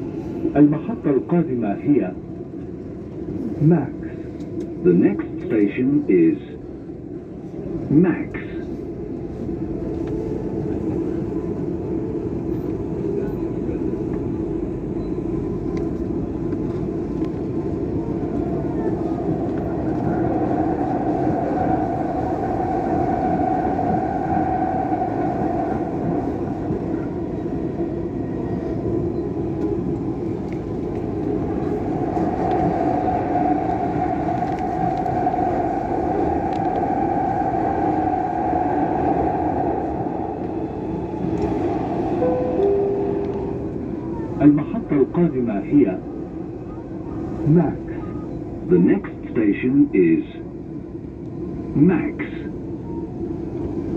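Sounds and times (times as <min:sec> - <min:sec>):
train rumbling: 0:00.0 - 0:53.9
train whine: 0:00.0 - 0:53.9.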